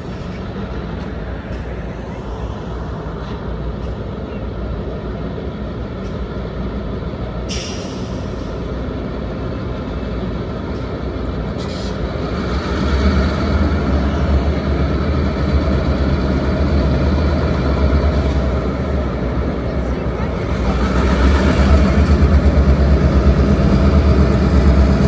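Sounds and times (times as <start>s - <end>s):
locomotive engine rumble: 0.0s - 25.0s.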